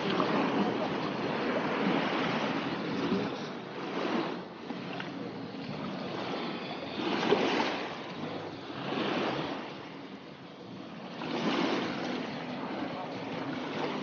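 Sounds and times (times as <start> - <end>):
small waves washing on shore: 0.0 - 14.0.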